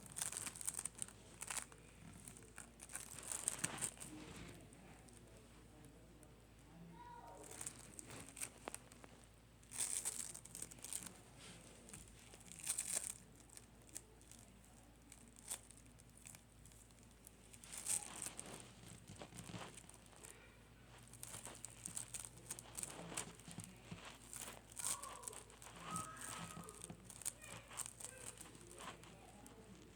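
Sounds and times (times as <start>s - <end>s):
slime crackling and popping: 0.0s - 5.1s, 7.0s - 29.9s.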